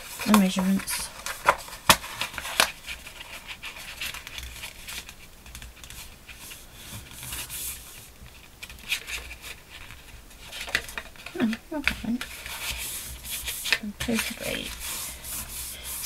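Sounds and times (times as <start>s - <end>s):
paper crackling: 0.0s - 16.0s
paper rustling and crinkling: 0.0s - 16.0s.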